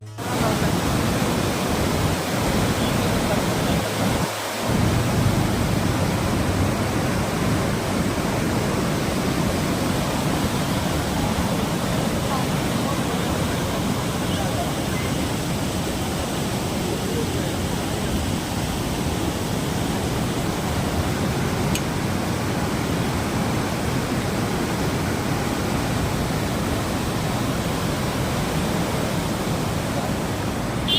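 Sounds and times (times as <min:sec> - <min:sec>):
water rushing through dam: 0:00.0 - 0:30.9.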